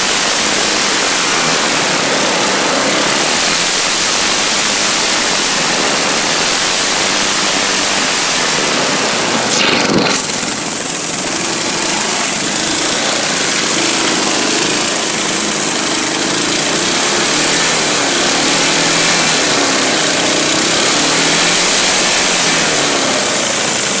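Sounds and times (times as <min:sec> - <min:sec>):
mower engine running: 0:00.0 - 0:24.0.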